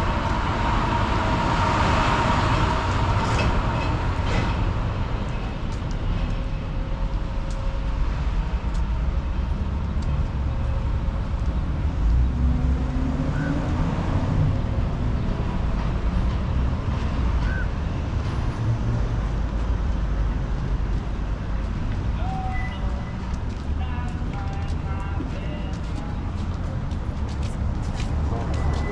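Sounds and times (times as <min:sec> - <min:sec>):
low rumble of traffic: 0:00.0 - 0:28.9.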